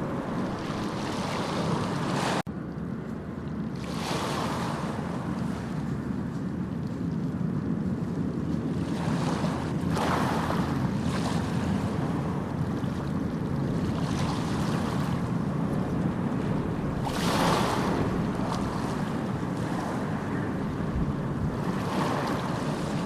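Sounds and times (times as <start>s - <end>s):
waves breaking and hissing: 0.0s - 2.4s, 3.8s - 5.7s, 8.8s - 23.0s
low rumble of surf: 0.0s - 23.0s.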